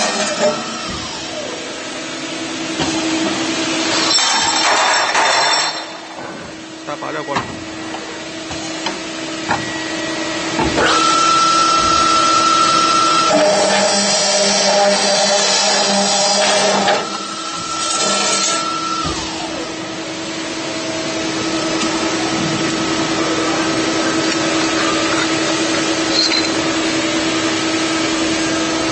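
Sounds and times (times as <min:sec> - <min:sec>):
pipe cutting machine motor whine: 0:00.0 - 0:04.6, 0:06.5 - 0:28.9.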